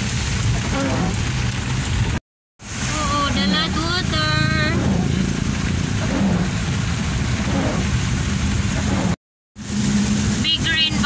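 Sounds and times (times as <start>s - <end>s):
rain hissing on wet road: 0.0s - 11.0s
vehicle engine rumble: 0.0s - 11.0s.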